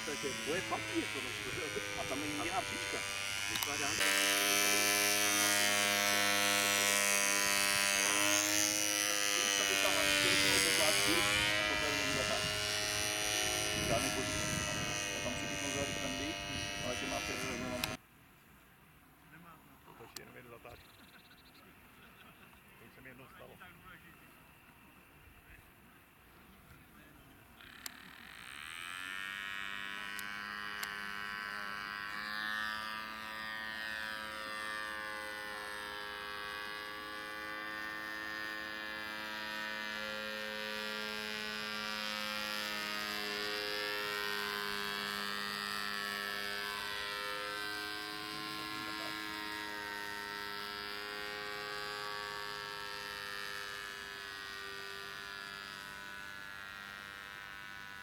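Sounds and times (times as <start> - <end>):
model airplane motor buzzing: 0.0 - 18.0, 19.2 - 58.0.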